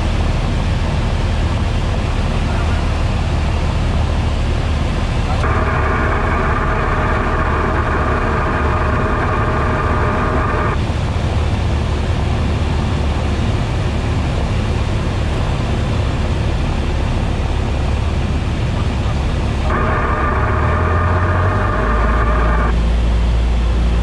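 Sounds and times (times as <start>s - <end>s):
aircraft engine and propeller droning: 0.0s - 24.0s.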